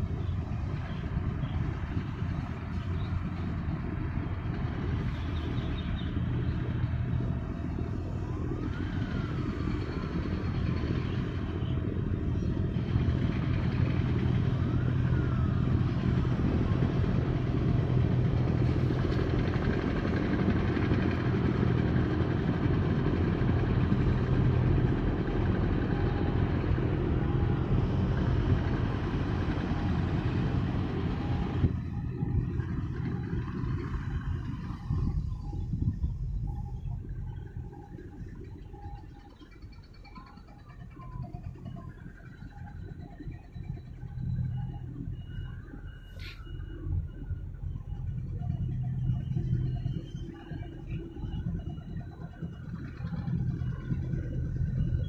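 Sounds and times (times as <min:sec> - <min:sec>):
faint whines: 0:00.0 - 0:55.0
low engine rumble: 0:00.0 - 0:55.0.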